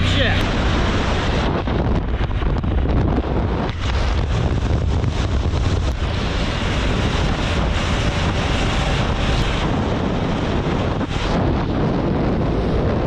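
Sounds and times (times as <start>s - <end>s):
motorcycle engine: 0.0s - 13.0s
road noise: 0.0s - 13.0s
wind rushing over microphone: 0.0s - 13.0s.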